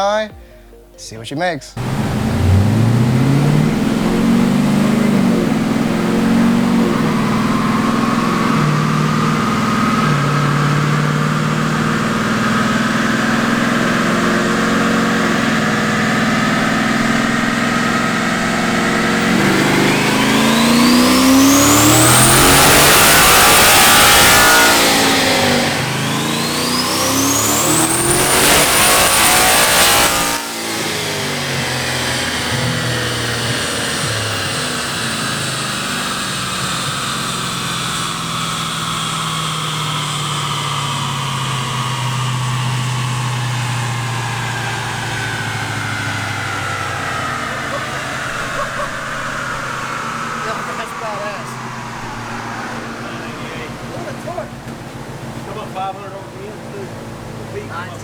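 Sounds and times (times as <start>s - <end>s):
turbo whine: 1.6s - 58.0s
engine revving on dyno: 1.8s - 58.0s.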